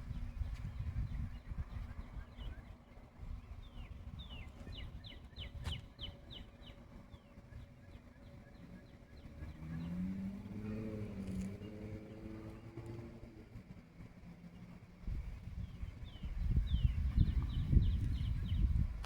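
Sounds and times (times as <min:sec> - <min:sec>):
low engine hum: 0:00.0 - 0:19.0
low steady rumble: 0:00.0 - 0:19.0.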